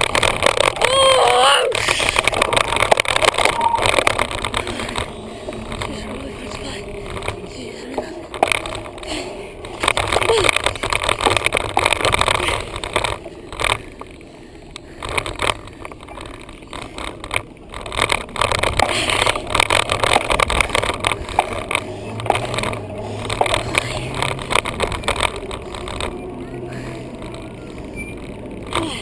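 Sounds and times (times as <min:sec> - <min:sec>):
bike mount rattling: 0:00.0 - 0:01.0, 0:01.7 - 0:29.0.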